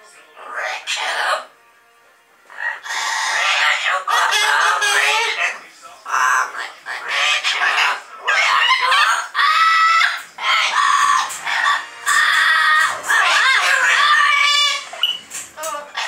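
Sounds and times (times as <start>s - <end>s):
parrot squawking: 0.4s - 1.5s, 2.5s - 16.0s.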